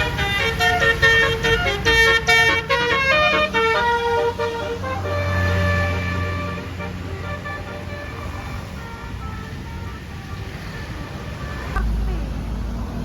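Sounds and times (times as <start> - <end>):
bus air horn playing a tune: 0.0 - 12.0.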